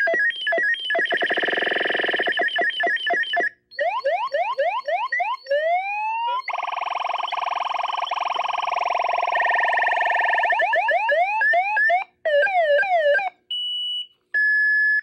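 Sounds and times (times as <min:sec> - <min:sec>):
fast repeating electronic pulses: 0:00.0 - 0:05.7, 0:06.3 - 0:13.2.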